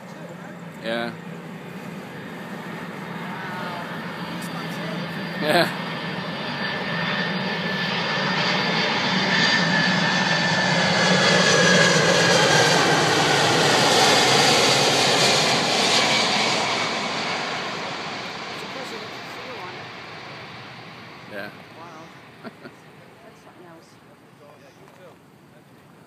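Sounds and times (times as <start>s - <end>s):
jet plane passing overhead: 0.0s - 26.0s.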